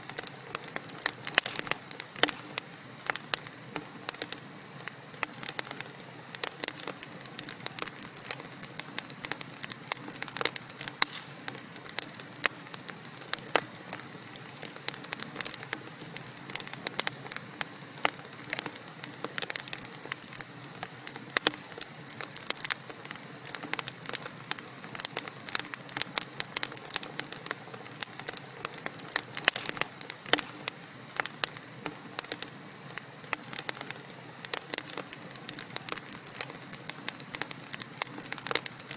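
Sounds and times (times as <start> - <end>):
logs crackling and popping: 0.0 - 38.9
soft steady hiss: 0.0 - 38.9.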